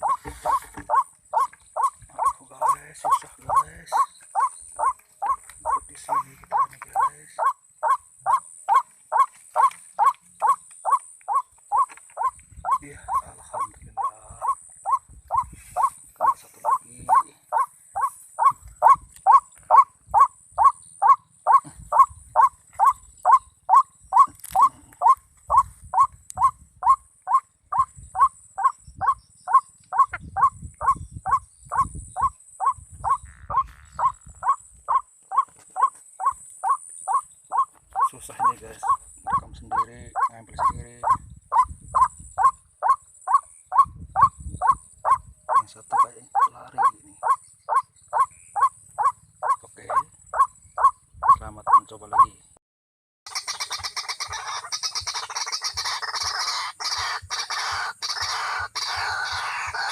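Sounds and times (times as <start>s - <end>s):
waterhen calling: 0.0s - 52.4s, 53.3s - 59.9s.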